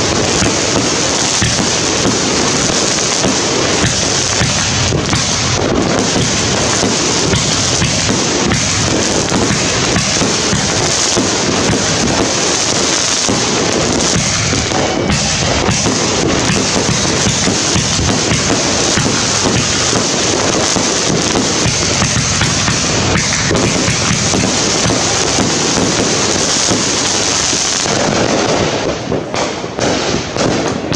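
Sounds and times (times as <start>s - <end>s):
firework barrage of shots and shells: 0.0s - 30.9s.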